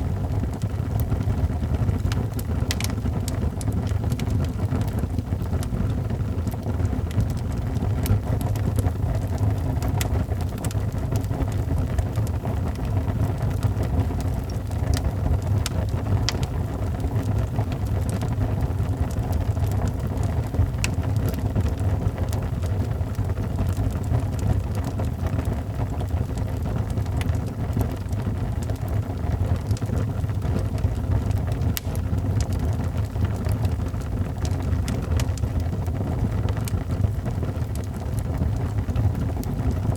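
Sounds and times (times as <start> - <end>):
fire crackling and popping: 0.0 - 39.9
flames roaring: 0.0 - 39.9.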